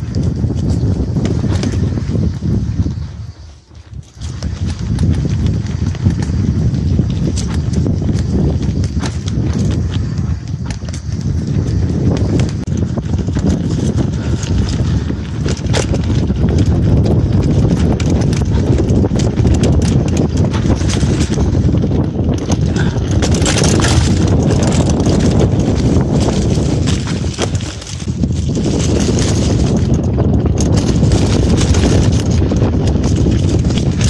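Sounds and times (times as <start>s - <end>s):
low tyre rumble: 0.0s - 34.0s
mountain bike rattling: 0.0s - 34.0s.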